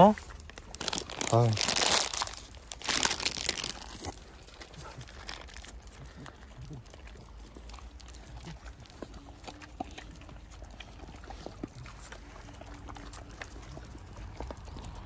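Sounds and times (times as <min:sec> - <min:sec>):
dogs crunching treats: 0:00.0 - 0:15.0
dogs licking: 0:00.0 - 0:15.0.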